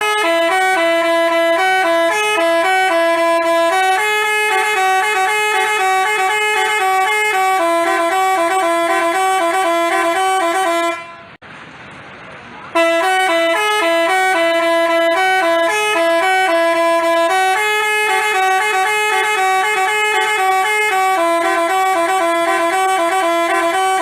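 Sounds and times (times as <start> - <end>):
bus horn melody: 0.0 - 11.4, 12.7 - 24.0.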